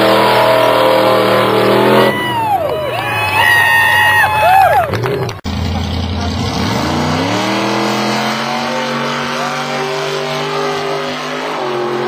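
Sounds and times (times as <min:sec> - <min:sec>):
buggy engine revving hard: 0:00.0 - 0:12.0.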